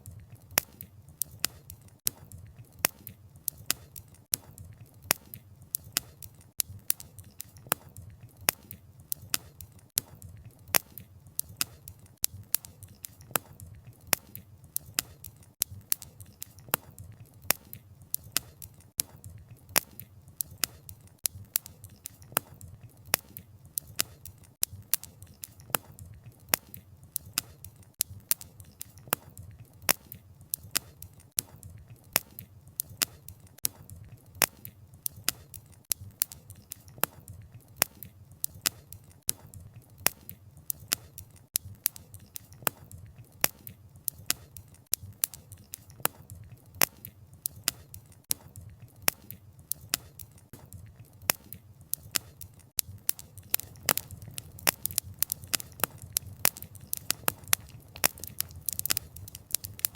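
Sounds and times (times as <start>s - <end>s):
wood fire popping and snapping: 0.0s - 59.9s.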